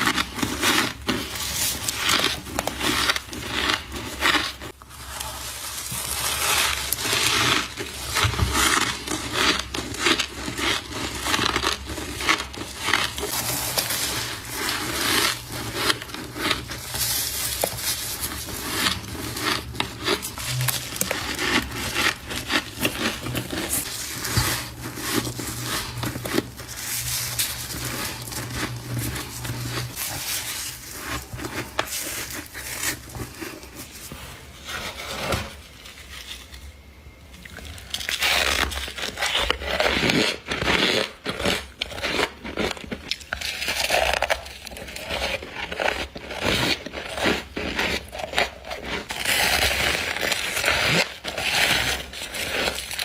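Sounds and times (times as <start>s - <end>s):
crunching frost being chewed: 0.0s - 34.3s, 37.3s - 53.0s.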